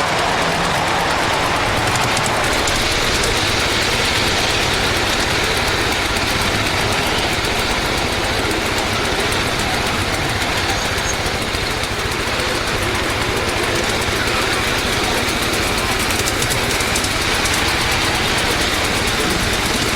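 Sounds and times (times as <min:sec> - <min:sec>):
miniature train engine beat: 0:00.0 - 0:19.9
wheel and track noise: 0:00.0 - 0:19.9.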